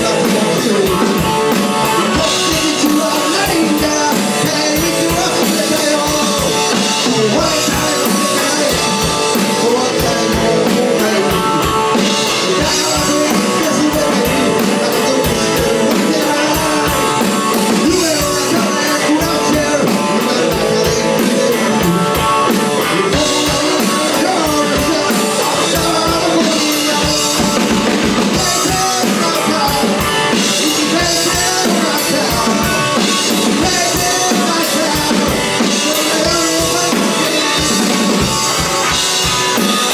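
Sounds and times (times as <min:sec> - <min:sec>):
drum kit: 0:00.0 - 0:39.9
electric guitar: 0:00.0 - 0:39.9
man singing: 0:00.0 - 0:39.9.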